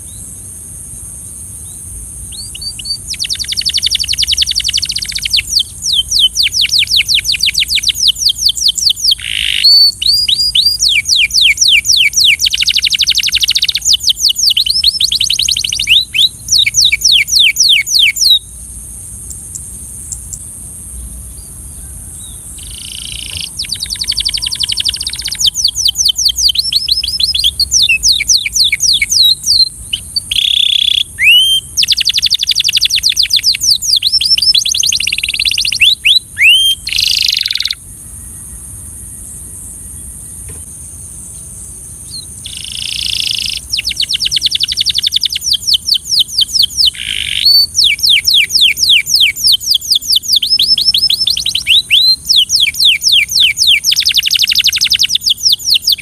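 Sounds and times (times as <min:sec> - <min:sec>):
canary singing trills: 0:01.6 - 0:38.7, 0:41.4 - 0:56.0.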